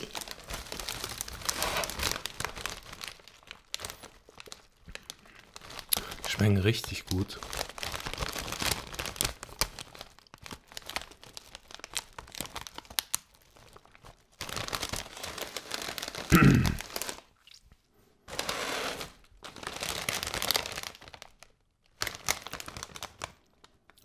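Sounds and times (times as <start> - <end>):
plastic packets crinkling: 0.0 - 17.4, 18.3 - 24.0.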